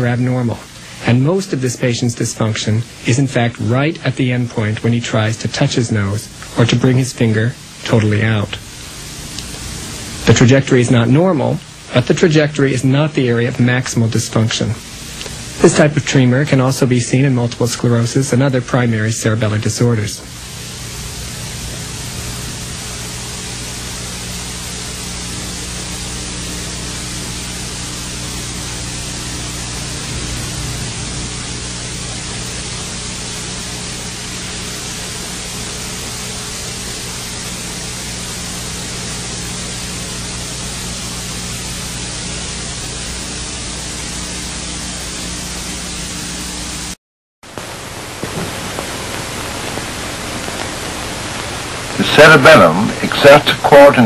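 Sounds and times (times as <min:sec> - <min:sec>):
low electrical hum: 0:00.0 - 0:54.0
steady hiss: 0:00.0 - 0:54.0.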